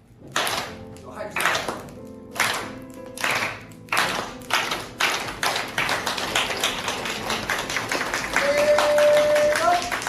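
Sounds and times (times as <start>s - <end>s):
people applauding: 1.4s - 10.0s.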